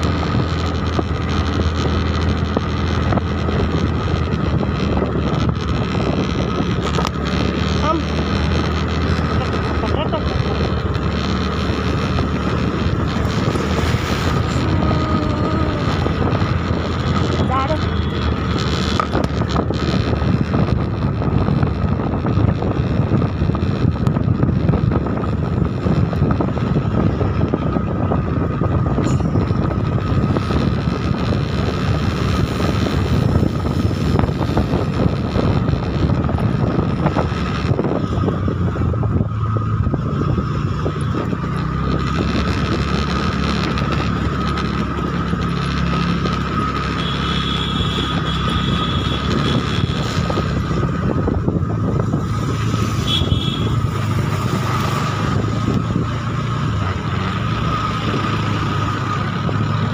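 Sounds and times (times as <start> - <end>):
vehicle engine running: 0.0 - 59.9
wind noise on microphone: 0.0 - 59.9.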